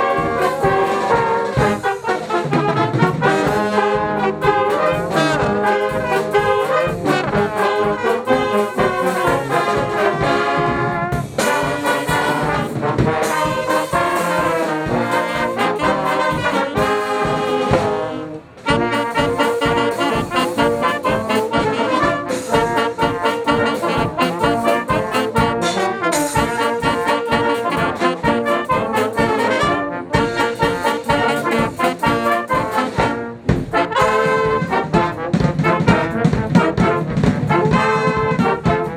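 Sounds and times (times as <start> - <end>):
brass band playing: 0.0 - 38.9.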